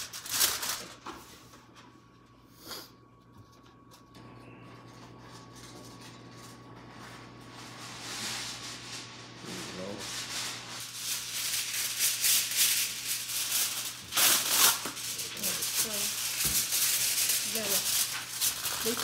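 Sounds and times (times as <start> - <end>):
aluminium foil crinkling: 0.0 - 1.3, 3.5 - 19.0.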